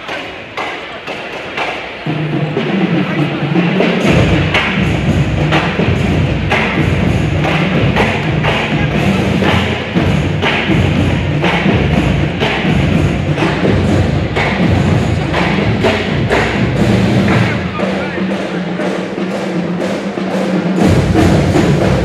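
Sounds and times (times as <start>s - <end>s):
loud music with heavy drum beat: 2.0s - 22.0s.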